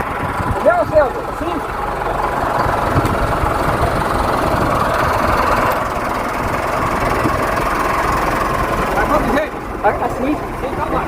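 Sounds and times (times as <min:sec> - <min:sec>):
vehicle engine knocking idle: 0:00.0 - 0:11.0.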